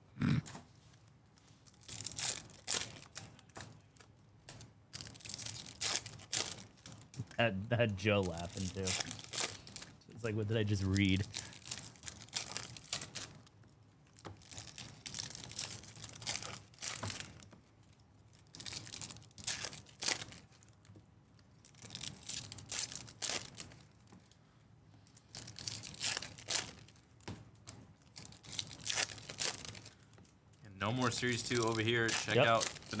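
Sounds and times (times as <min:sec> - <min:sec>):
foil wrappers tearing and crinkling: 0:01.7 - 0:04.1, 0:04.9 - 0:17.6, 0:18.3 - 0:20.8, 0:21.5 - 0:24.4, 0:25.2 - 0:27.1, 0:28.0 - 0:30.1, 0:30.9 - 0:33.0.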